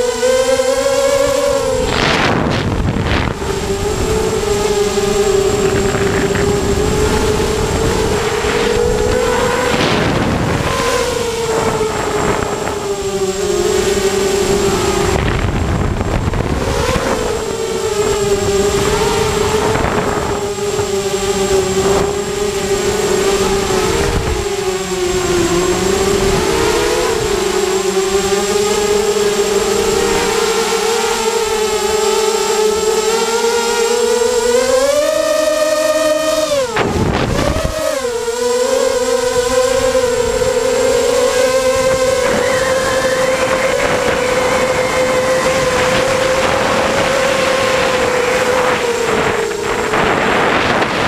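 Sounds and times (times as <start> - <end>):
drone motors buzzing whine: 0.0 - 51.0
rushes of air noise: 0.0 - 51.0.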